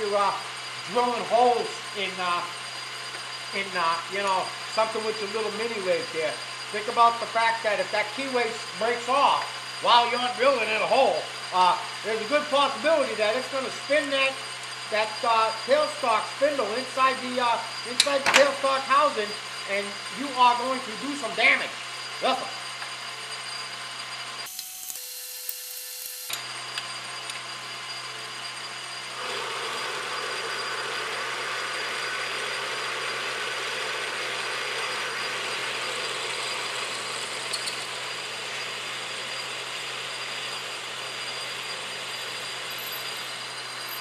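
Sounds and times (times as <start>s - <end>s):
drill cutting into iron: 0.0s - 44.0s
metal lathe running: 0.0s - 44.0s.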